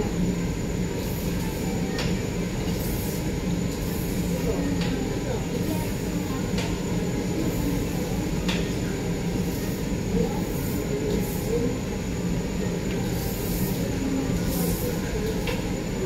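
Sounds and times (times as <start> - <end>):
faint chatter: 0.0 - 16.0.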